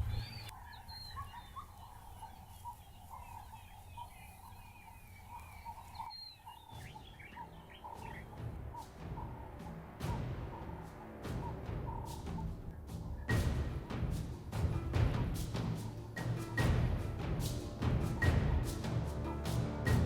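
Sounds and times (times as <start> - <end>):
birds chirping and whistling: 0.0 - 20.0.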